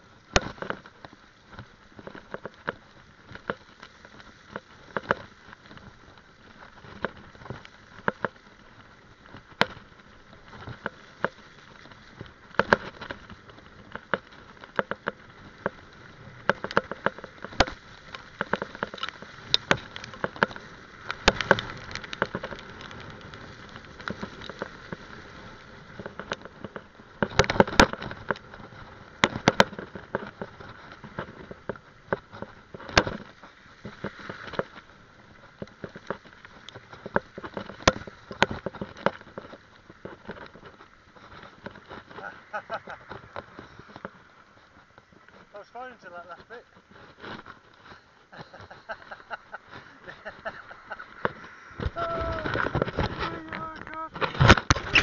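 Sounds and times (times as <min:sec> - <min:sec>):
bike rattling over bumps: 0:00.0 - 0:55.0
tyres hissing on wet gravel: 0:00.0 - 0:55.0.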